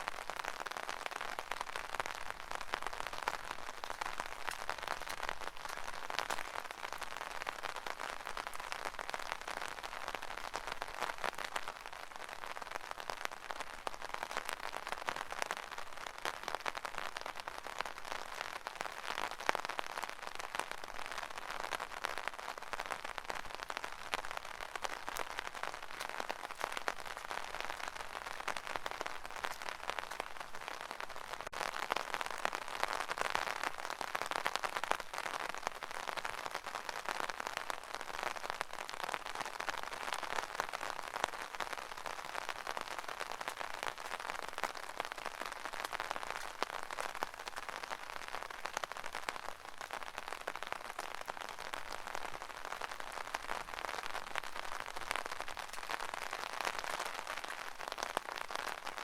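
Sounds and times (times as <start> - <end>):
rain on an umbrella: 0.0 - 59.0.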